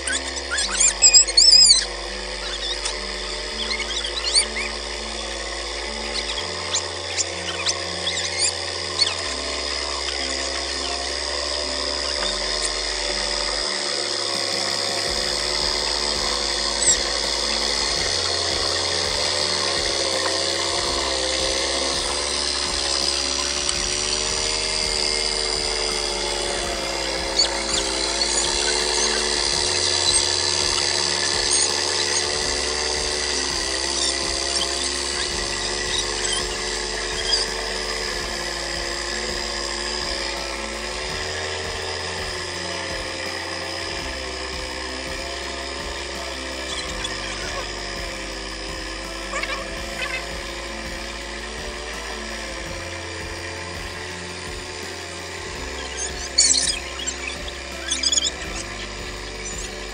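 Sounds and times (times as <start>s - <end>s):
hand tractor engine running: 0.0s - 59.9s.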